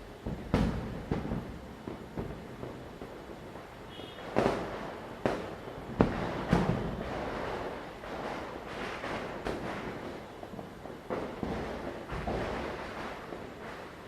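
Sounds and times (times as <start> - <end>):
distant firecrackers crackling: 0.0 - 14.0
firecracker bangs: 0.2 - 14.0.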